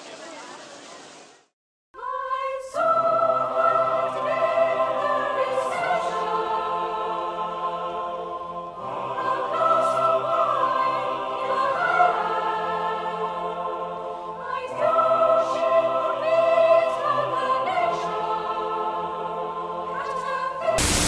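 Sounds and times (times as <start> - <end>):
choir singing sustained chords: 2.0 - 21.0.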